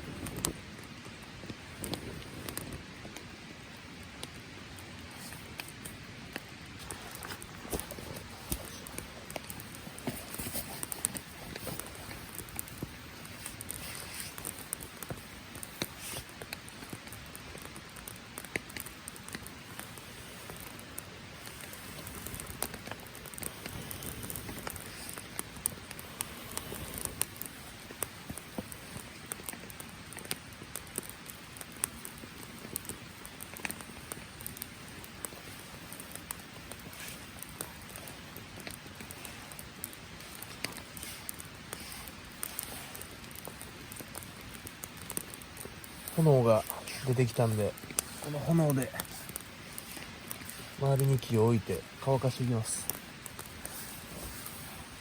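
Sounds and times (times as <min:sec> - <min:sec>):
rain pattering: 0:00.0 - 0:55.0
sharp ticks and crackles: 0:00.1 - 0:55.0.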